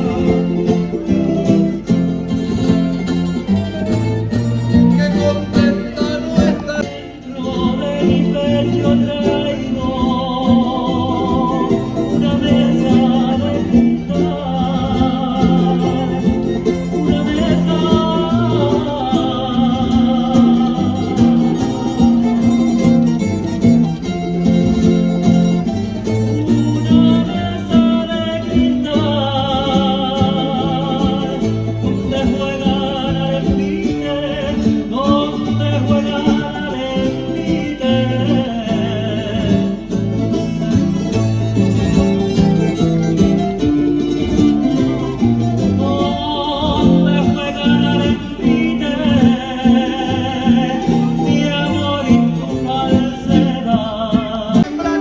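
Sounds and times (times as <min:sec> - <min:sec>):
folk music on plucked strings: 0:00.0 - 0:55.0.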